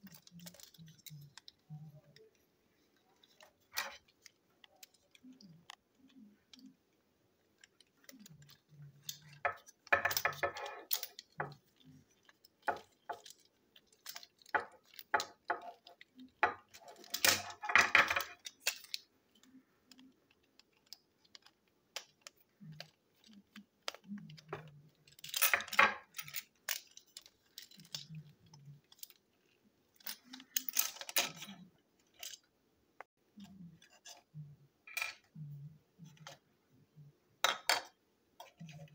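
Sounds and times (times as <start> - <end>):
toy parts rattling: 0.0 - 32.5
toy train parts clicking and knocking: 0.0 - 32.5, 37.4 - 38.9.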